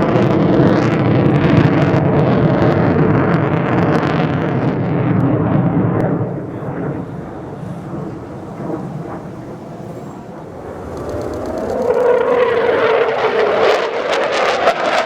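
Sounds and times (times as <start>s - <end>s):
fighter jet passing: 0.0s - 15.0s.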